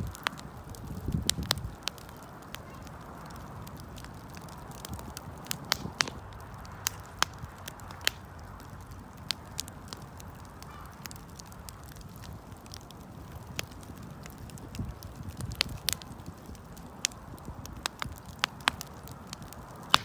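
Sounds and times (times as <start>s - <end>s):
burning wood crackling and popping: 0.0s - 20.0s
campfire burning: 0.0s - 20.0s.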